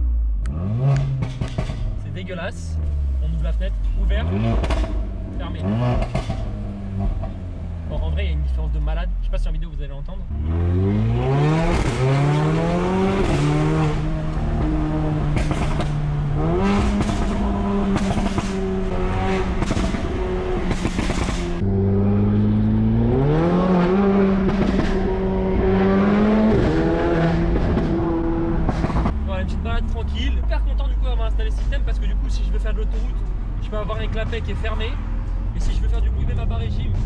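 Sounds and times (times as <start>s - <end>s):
car engine accelerating: 0.0s - 9.0s, 10.2s - 37.0s
exhaust cracks: 0.0s - 9.8s, 10.9s - 37.0s.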